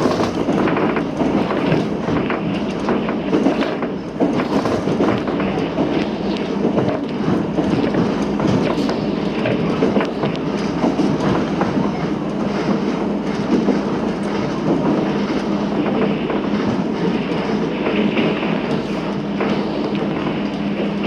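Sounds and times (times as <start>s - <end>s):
train wheels rumbling on rail: 0.0s - 21.0s
wheels clicking over rail joints: 0.0s - 21.0s.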